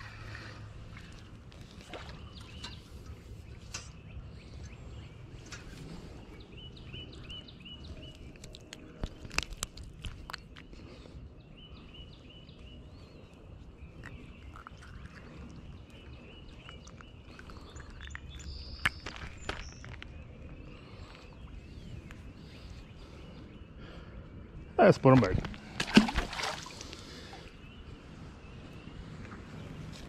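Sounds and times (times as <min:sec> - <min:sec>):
low wind rumble: 0:00.0 - 0:30.0
songbird chirping: 0:00.0 - 0:30.0.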